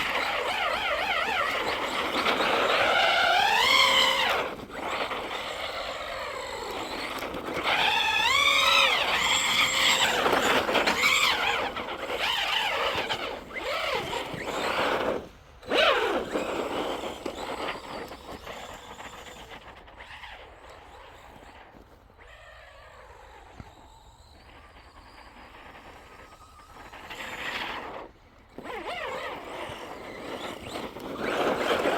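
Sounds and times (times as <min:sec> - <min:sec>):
electric toy truck motor whining: 0:00.0 - 0:31.9.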